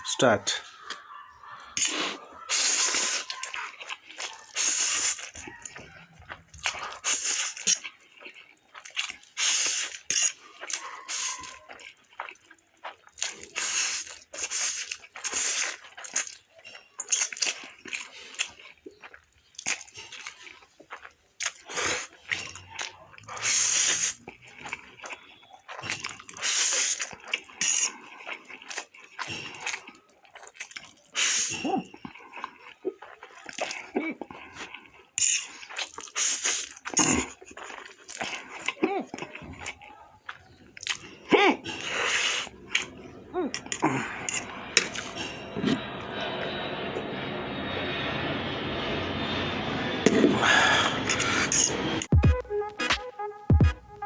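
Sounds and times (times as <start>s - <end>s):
chewing: 0.6s - 45.9s
noodle slurping: 1.7s - 45.8s.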